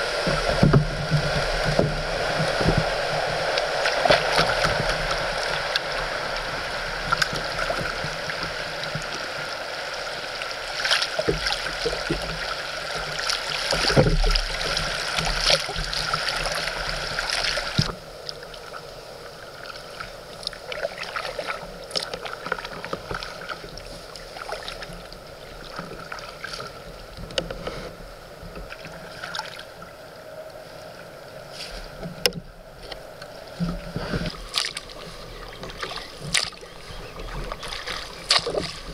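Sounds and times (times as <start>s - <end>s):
river water rushing: 0.0s - 38.9s
water splashes: 0.0s - 38.9s.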